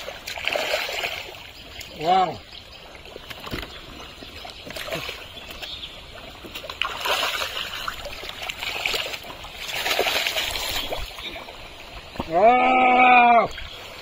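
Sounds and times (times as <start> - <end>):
mud and water squelching: 0.0 - 14.0.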